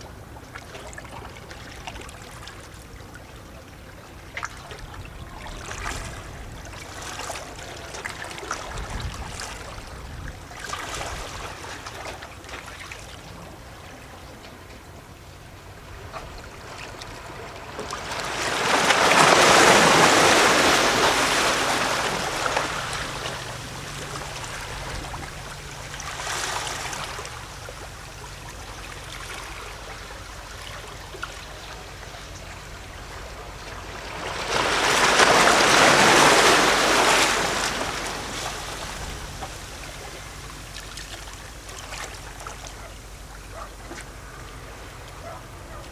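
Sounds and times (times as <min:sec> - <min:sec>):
sea waves lapping against rocks: 0:03.8 - 0:14.6, 0:15.6 - 0:45.9.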